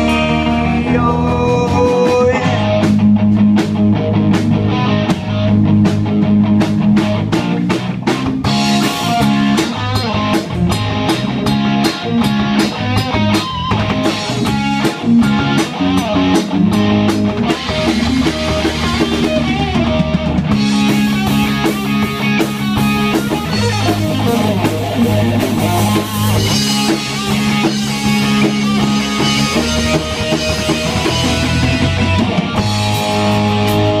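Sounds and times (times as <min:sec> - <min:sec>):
drum kit: 0:00.0 - 0:34.0
electric guitars: 0:00.0 - 0:34.0
rock band playing live: 0:00.0 - 0:34.0.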